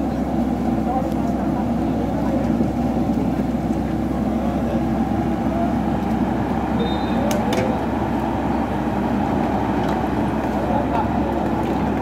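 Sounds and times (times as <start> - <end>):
excavator diesel engine under load: 0.0 - 12.0.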